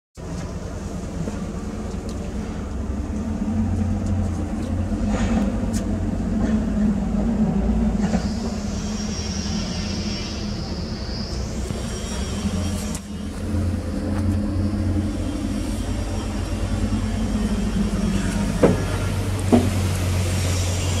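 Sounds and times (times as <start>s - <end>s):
diesel engine running: 0.2s - 21.0s
high whine: 0.3s - 21.0s.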